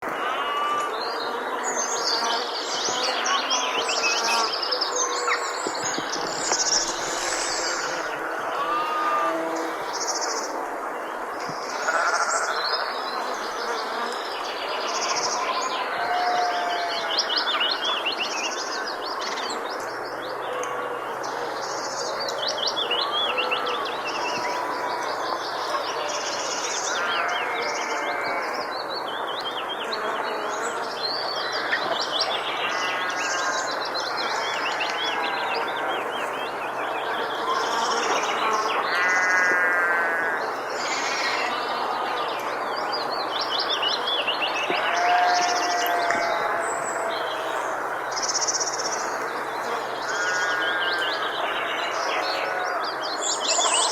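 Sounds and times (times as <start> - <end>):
birds chirping and trilling: 0.0 - 53.9
open-air background hiss: 0.0 - 53.9.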